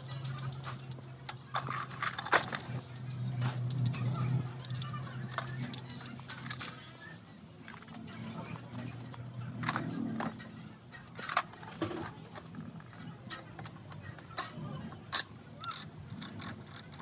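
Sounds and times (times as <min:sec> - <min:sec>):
metal gears clinking: 0:00.0 - 0:17.0.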